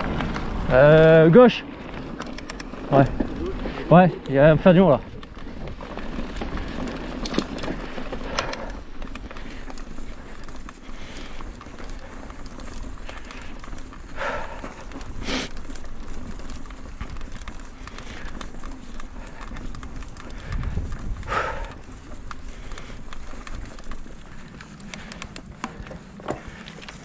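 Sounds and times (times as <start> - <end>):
bike rattling over bumps: 0.0 - 27.0
bike tyres rolling on dirt: 0.0 - 27.0.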